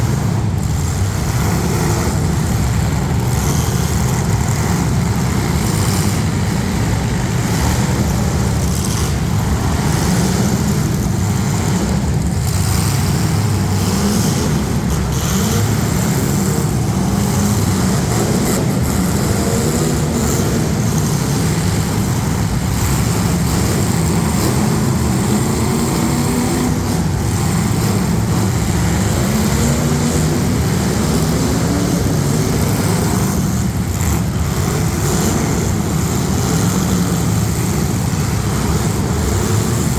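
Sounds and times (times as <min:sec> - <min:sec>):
car engines running loud: 0:00.0 - 0:39.9.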